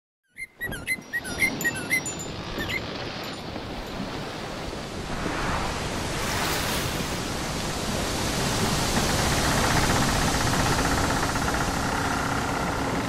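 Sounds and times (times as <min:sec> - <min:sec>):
breaking waves rushing: 0:01.4 - 0:13.0.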